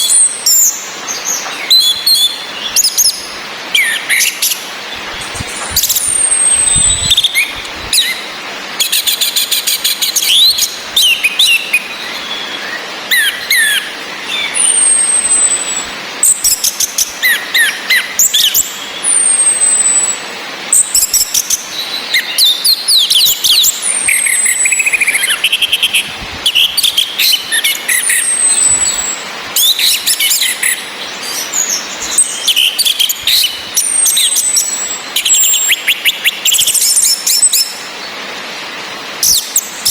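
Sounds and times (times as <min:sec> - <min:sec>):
thin descending bird whistle: 0:00.0 - 0:37.8
bird song phrases: 0:00.0 - 0:38.2.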